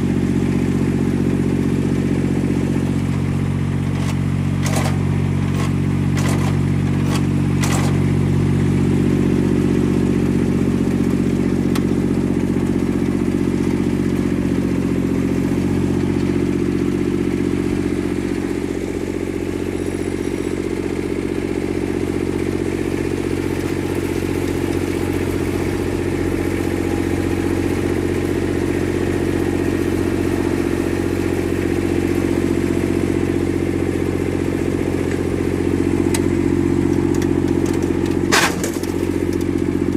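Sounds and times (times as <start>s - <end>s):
snow blower diesel engine running: 0.0s - 39.9s.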